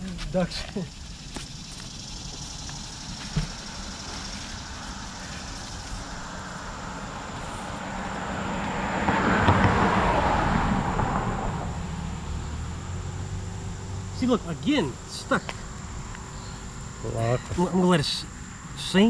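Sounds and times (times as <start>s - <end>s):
high insect buzz: 0.0s - 19.0s
vehicle passing by: 1.7s - 18.9s.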